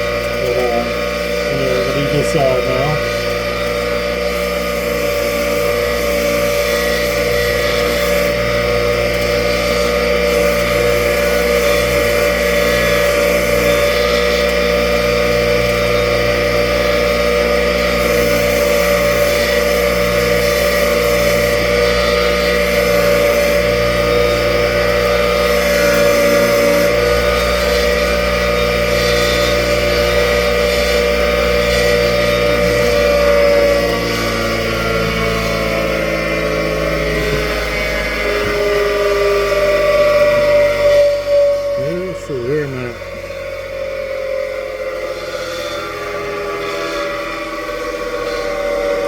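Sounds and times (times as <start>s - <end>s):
bench grinder motor running: 0.0s - 49.0s
wire wheel scratching metal: 0.0s - 49.0s.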